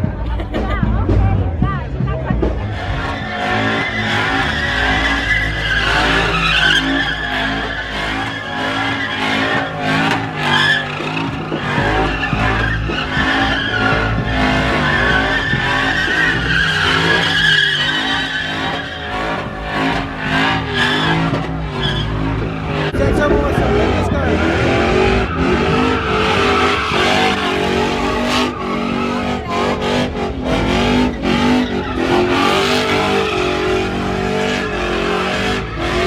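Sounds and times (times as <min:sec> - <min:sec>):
engine revving: 0:00.8 - 0:36.0
tyres squealing: 0:02.4 - 0:36.0.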